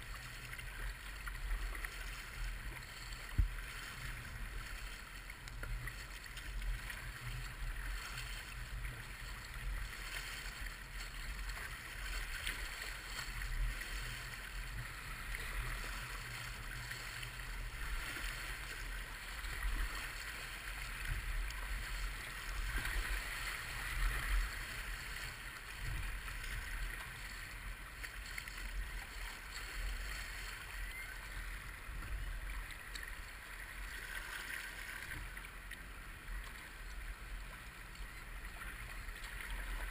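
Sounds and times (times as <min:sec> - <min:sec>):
river water rushing and splashing: 0:00.0 - 0:39.9.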